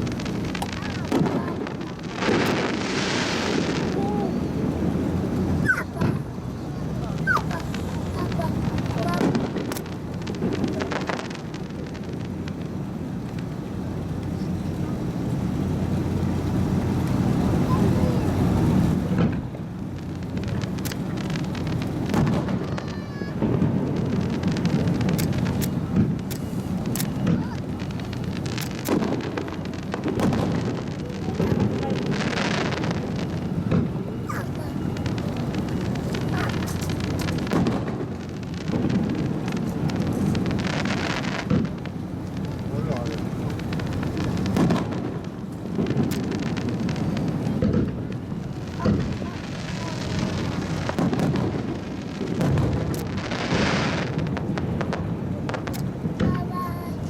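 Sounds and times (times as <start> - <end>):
fireworks booming: 0.0 - 57.0
fireworks crackling: 0.0 - 57.0
fireworks hissing burst: 0.0 - 57.0
rumbling echo: 0.0 - 57.0.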